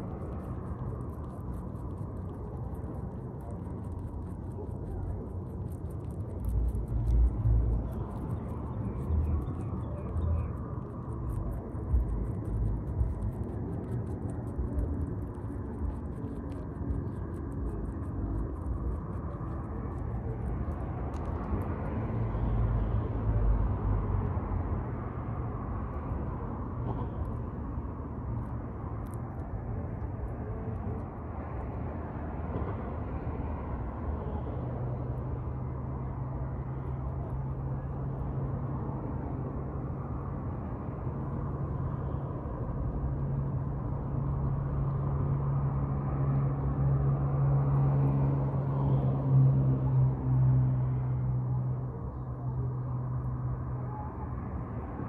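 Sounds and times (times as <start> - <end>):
low engine hum: 0.0 - 55.0
road traffic rumble: 0.0 - 55.0.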